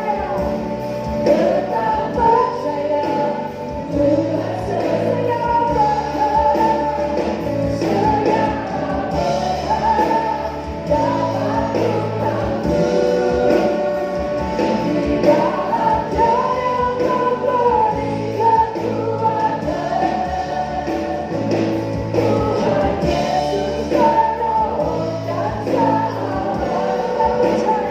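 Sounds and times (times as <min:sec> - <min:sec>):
band accompaniment: 0:00.0 - 0:27.9
choir singing gospel song: 0:00.0 - 0:27.9.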